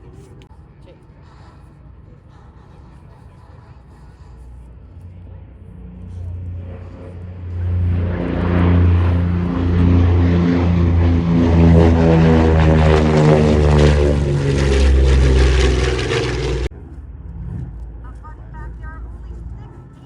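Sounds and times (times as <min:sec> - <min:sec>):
propeller plane engines droning: 0:00.0 - 0:20.0.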